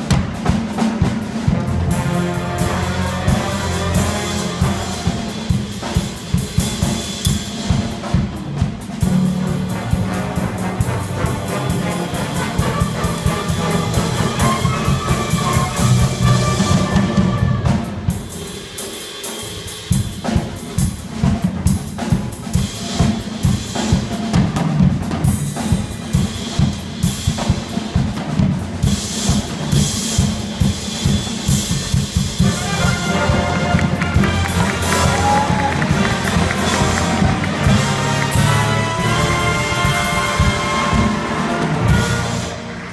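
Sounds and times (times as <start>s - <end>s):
drum kit solo: 0.0s - 42.9s
jazz horns: 0.0s - 42.9s.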